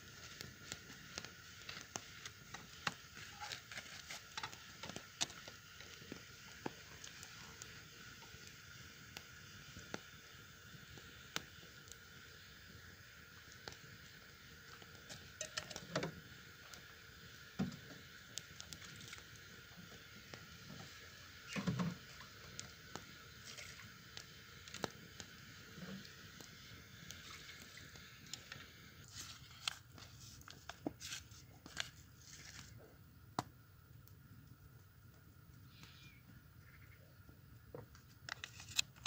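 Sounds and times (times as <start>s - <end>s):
campfire crackling and popping: 0.0s - 39.0s
faint steady hiss: 0.0s - 39.0s.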